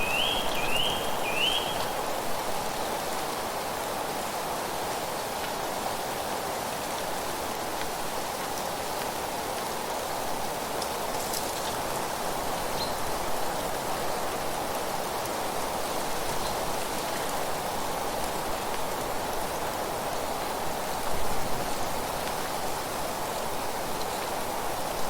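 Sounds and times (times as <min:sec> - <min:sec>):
wind rustling dry leaves: 0:00.0 - 0:25.0.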